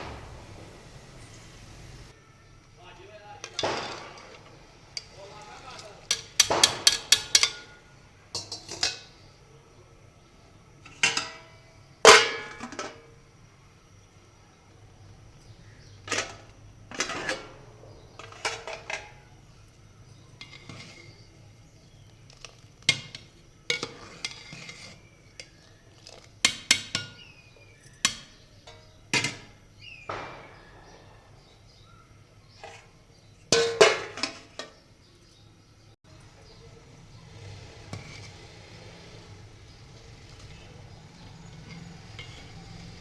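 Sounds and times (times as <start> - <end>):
utensils and dishes clinking: 3.4 - 9.3, 10.8 - 13.1, 15.4 - 43.0.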